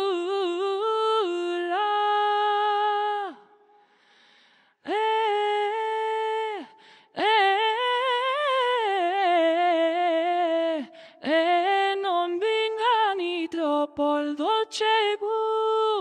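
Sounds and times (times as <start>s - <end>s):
synthesized voice singing melisma: 0.0s - 3.5s, 4.9s - 16.0s.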